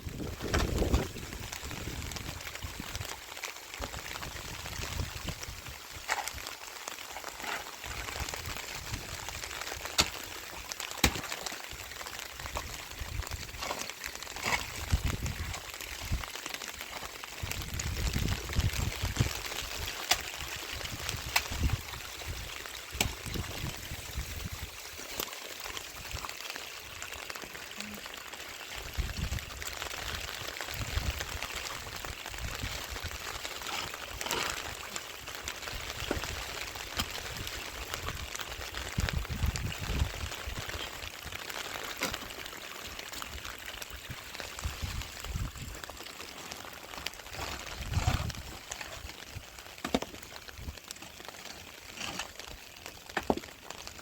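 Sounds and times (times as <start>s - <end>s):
steady rain falling: 0.0s - 54.0s
water trickling: 0.1s - 54.0s.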